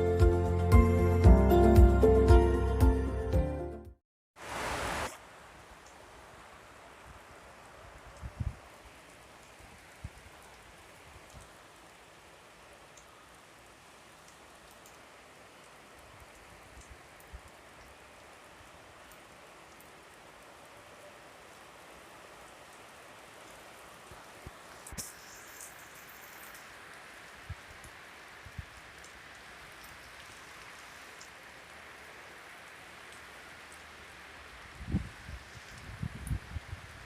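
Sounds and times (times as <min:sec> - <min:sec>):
steady rain falling: 0:04.4 - 0:37.0.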